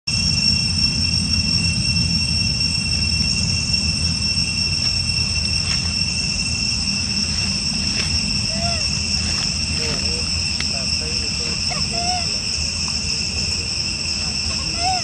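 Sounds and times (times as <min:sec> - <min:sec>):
insects droning: 0:00.1 - 0:15.0
loud low rumble: 0:00.1 - 0:15.0.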